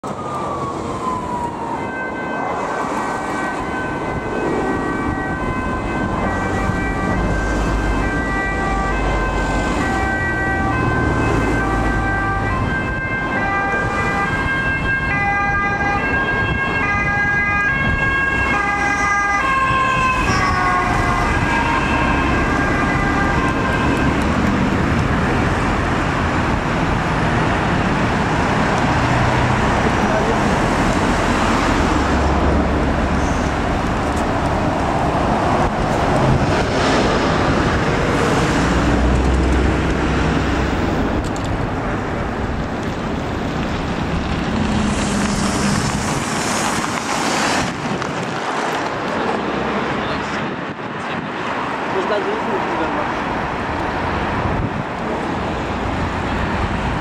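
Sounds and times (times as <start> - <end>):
police siren: 0.0 - 48.1
road traffic: 0.0 - 57.0.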